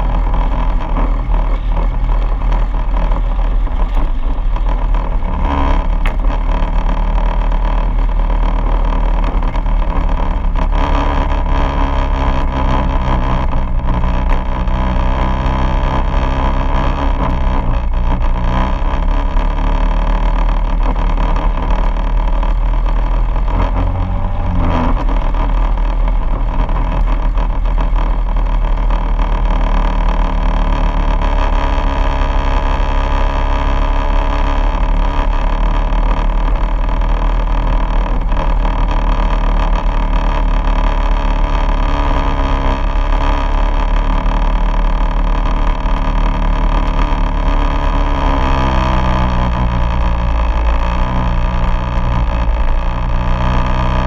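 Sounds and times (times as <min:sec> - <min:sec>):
low rumble: 0:00.0 - 0:54.0
quad bike engine running: 0:00.0 - 0:54.0.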